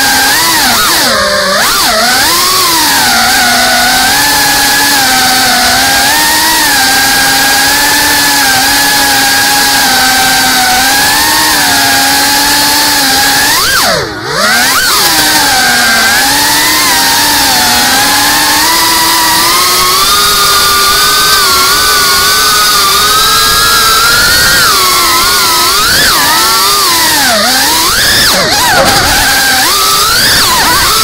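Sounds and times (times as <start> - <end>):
drone motors and propellers whining: 0.0 - 31.0.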